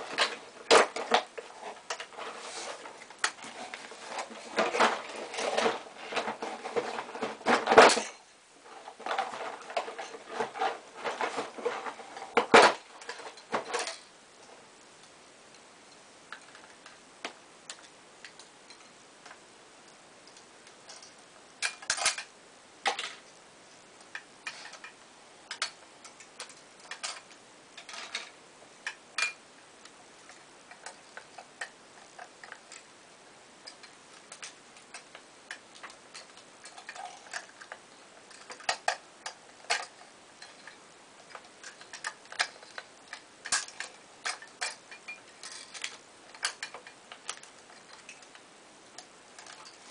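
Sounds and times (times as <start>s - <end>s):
plastic parts clicking and rattling: 0.0s - 33.0s, 33.6s - 49.9s.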